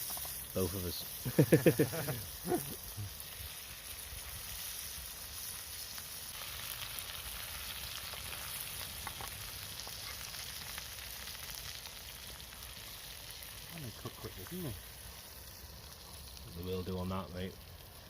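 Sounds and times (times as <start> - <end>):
food sizzling over campfire: 0.0 - 18.0.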